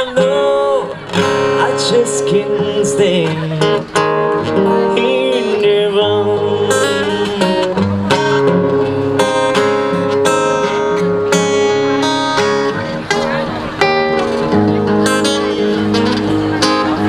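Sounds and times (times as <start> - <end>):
acoustic guitar strummed and picked: 0.0 - 17.0.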